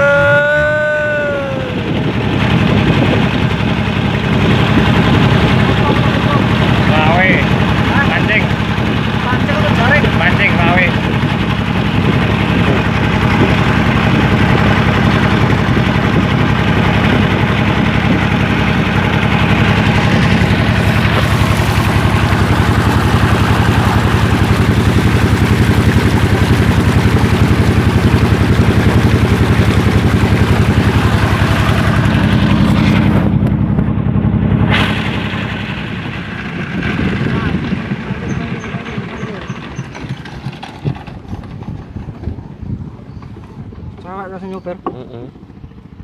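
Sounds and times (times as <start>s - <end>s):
small engine running: 0.0s - 46.0s.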